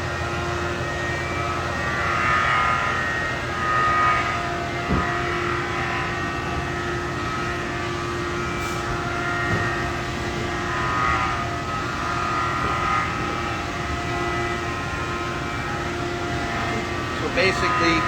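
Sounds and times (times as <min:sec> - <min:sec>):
machinery humming with high whine: 0:00.0 - 0:18.0.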